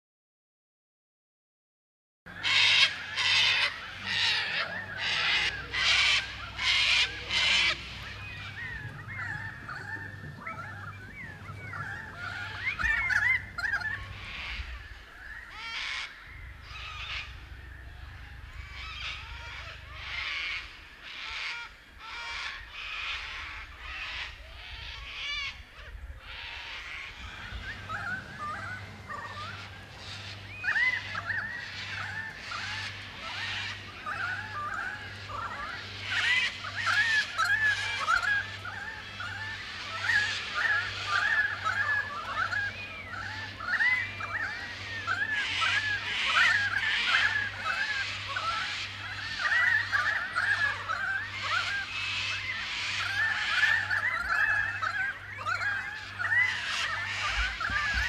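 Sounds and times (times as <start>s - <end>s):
birds warbling and whistling: 2.3s - 58.0s
harsh bird squawks: 2.3s - 58.0s.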